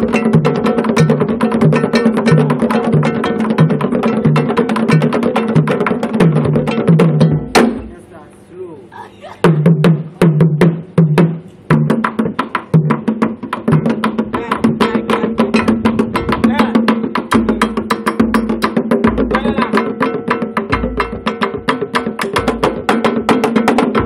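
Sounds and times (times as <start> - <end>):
deep drum tone: 0.0 - 8.0, 9.4 - 24.0
wooden drums played fast: 0.0 - 8.2, 9.2 - 24.0.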